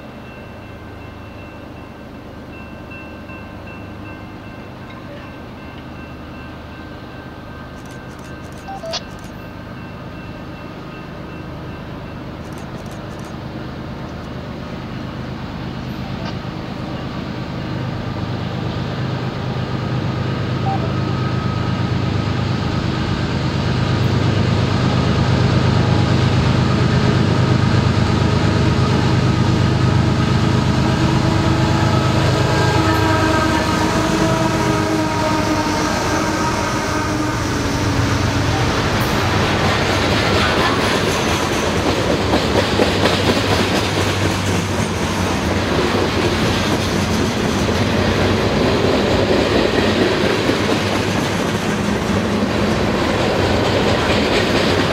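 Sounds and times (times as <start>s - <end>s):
diesel locomotive passing: 0.0s - 54.9s.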